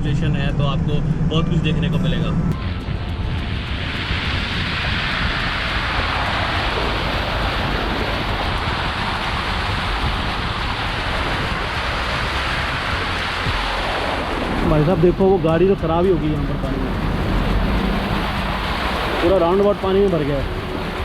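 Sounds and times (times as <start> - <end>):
low rumble: 0.0 - 21.0
wind: 0.0 - 21.0
heavy rain: 2.7 - 21.0.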